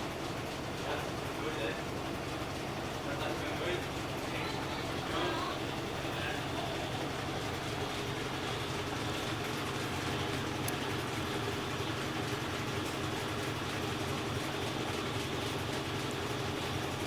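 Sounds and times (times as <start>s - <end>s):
washing machine spin cycle hum: 0.0s - 17.0s.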